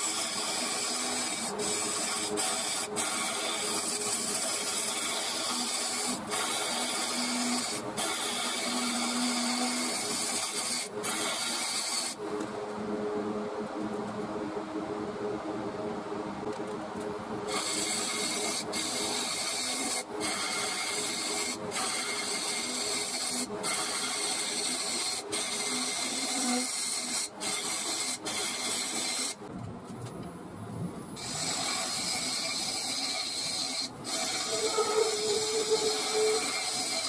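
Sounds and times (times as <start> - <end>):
lathe tool cutting wood: 0.0 - 12.2, 17.5 - 29.4, 31.2 - 37.0
lathe hum: 0.0 - 29.5, 31.2 - 37.0.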